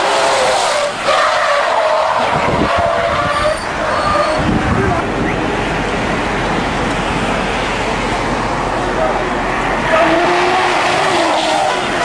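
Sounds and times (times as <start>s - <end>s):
highway traffic rushing: 0.0s - 12.0s.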